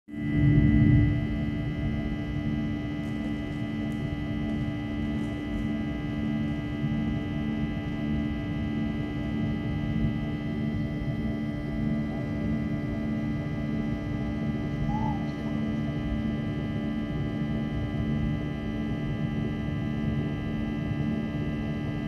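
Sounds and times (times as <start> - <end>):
jet engine drone in cabin: 0.1 - 22.0.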